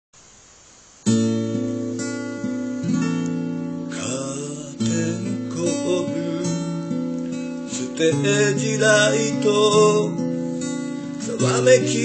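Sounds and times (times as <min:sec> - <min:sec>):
acoustic guitar chords: 0:01.0 - 0:12.0.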